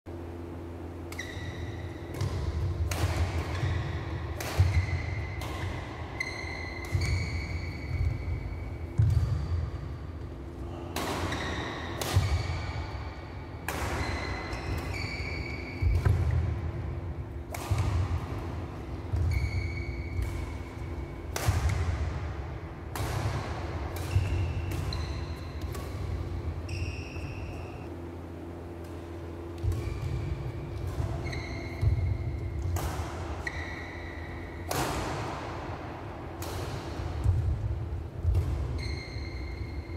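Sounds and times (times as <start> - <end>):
steady low hum: 0.1 - 39.9
racket striking shuttlecock: 1.0 - 10.1, 10.8 - 27.8, 28.7 - 39.9.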